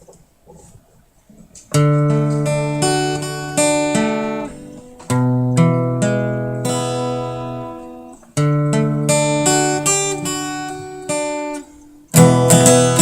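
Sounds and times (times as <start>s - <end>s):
acoustic guitar strumming: 1.6s - 13.0s.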